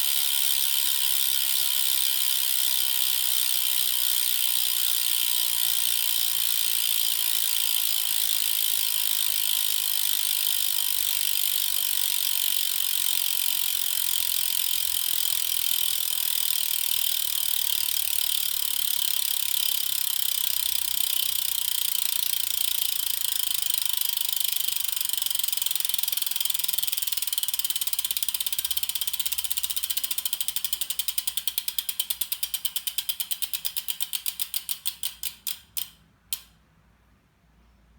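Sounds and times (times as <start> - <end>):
bicycle freehub clicking: 0.0 - 36.6.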